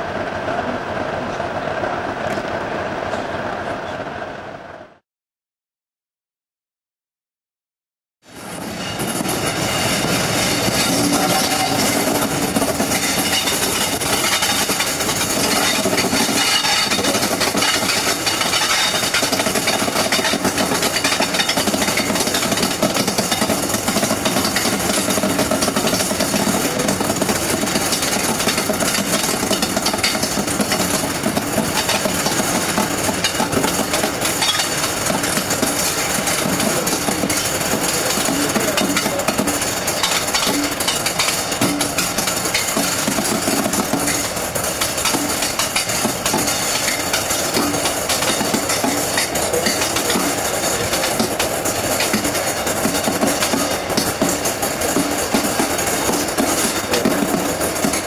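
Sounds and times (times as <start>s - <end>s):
train engine rumble: 0.0s - 5.0s, 8.3s - 58.0s
train wheels rattling: 8.3s - 58.0s.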